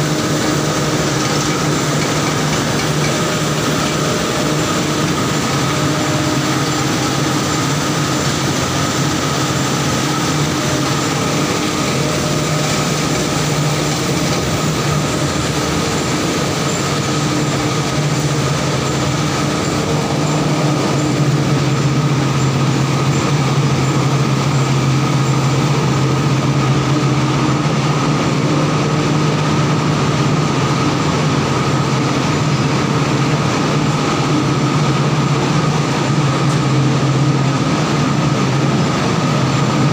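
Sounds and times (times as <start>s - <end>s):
mill machinery humming: 0.0s - 39.9s.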